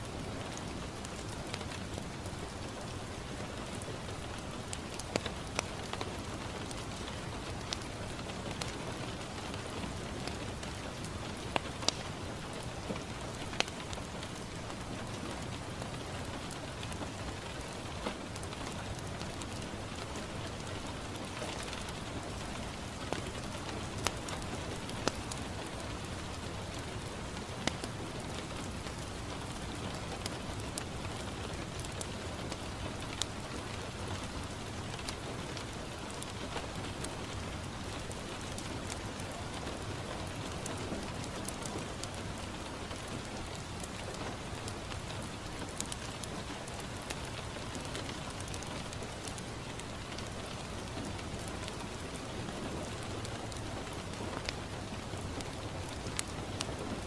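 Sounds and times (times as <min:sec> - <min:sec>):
rain on a window: 0:00.0 - 0:57.0
wood fire crackling: 0:00.0 - 0:57.0.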